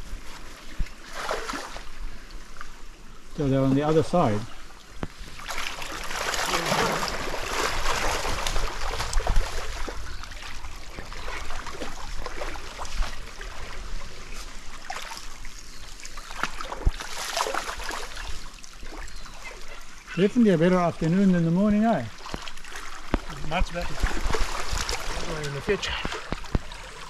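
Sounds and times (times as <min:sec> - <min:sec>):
water splashing around waders: 0:00.0 - 0:02.8, 0:03.4 - 0:27.0
stream current rushing: 0:00.0 - 0:27.0.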